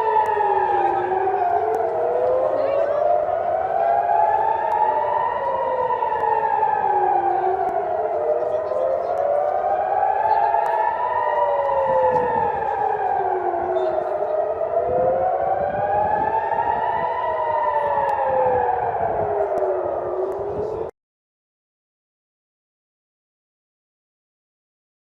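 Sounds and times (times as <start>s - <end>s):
air-raid sirens wailing: 0.0s - 20.9s.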